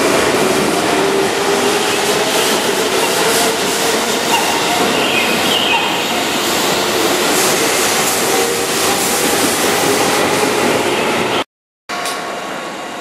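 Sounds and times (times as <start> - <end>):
train wheel and motor noise: 0.0 - 13.0.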